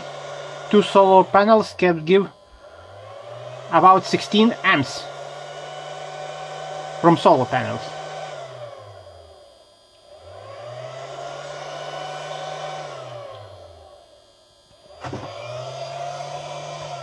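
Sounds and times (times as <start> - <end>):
machine whirring hum: 0.0 - 17.0.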